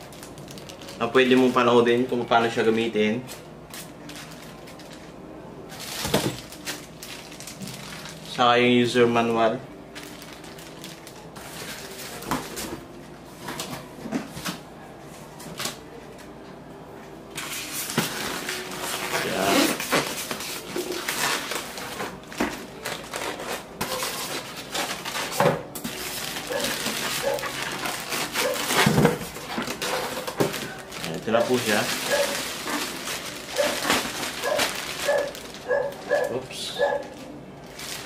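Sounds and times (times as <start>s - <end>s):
styrofoam and plastic bag crinkling: 0.0s - 12.9s, 17.3s - 38.0s.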